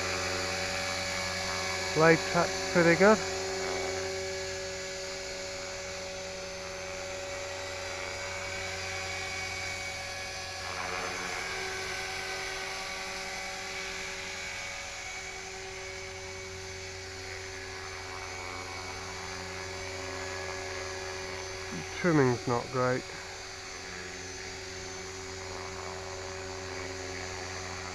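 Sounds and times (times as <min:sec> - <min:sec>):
rc helicopter rotor whine: 0:00.0 - 0:27.9.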